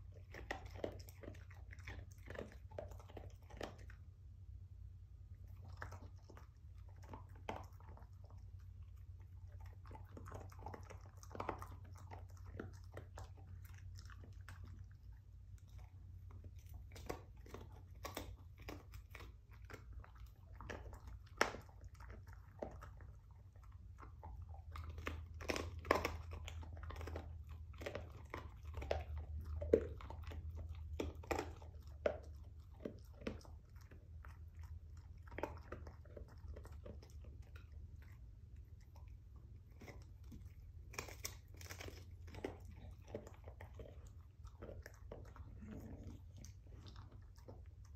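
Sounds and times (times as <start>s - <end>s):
dog gnawing on bone: 0.0s - 4.3s, 5.2s - 47.9s.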